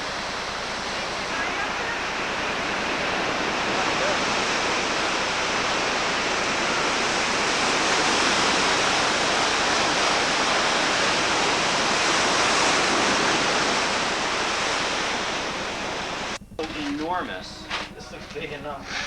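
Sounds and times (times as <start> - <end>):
loud steady hiss: 0.0 - 19.0.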